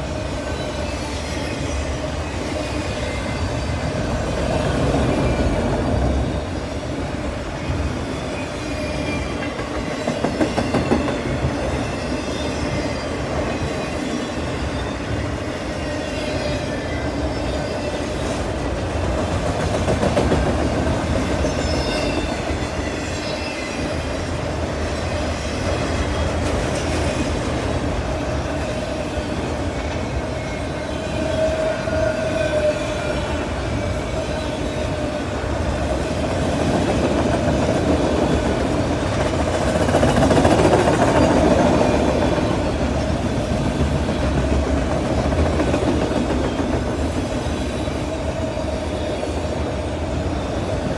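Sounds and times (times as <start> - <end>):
freight train rumbling past: 0.0 - 50.9.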